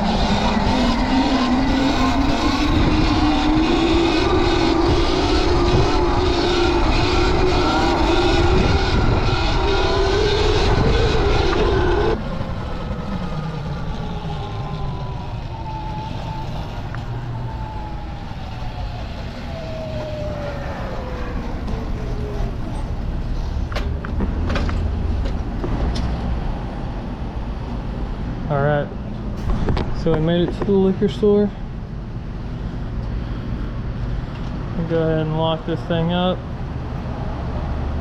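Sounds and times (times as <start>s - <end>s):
road rumble: 0.0s - 38.0s
wind: 0.0s - 38.0s.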